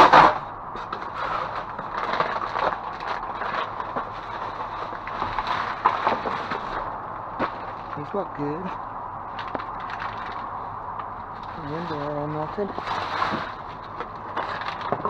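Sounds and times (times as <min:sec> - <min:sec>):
cardboard boxes and wrappers rustling: 0:00.0 - 0:08.7, 0:11.3 - 0:15.0.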